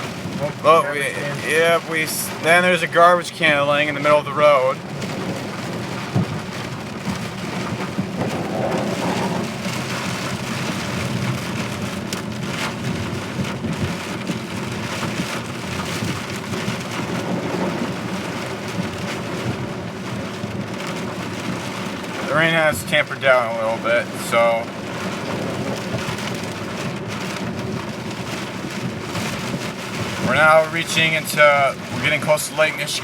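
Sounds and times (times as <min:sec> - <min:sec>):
heavy rain pelting a car: 0:00.0 - 0:33.0
tyres hissing on wet road: 0:00.0 - 0:33.0.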